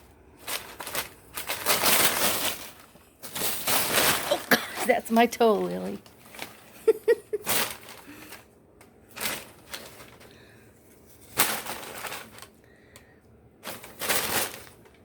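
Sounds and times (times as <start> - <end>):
packing paper rustling: 0.0 - 15.0.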